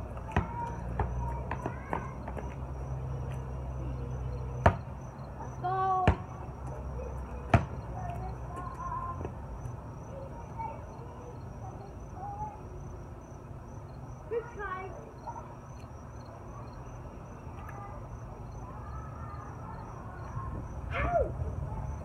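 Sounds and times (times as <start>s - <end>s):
insects chirping: 0.0s - 20.9s
distant voices: 0.0s - 22.0s.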